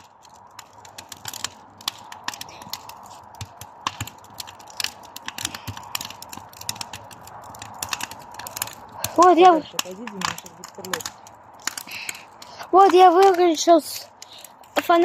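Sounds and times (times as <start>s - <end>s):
sharp pops and snaps: 0.0s - 15.0s
wood fire crackling: 0.0s - 15.0s.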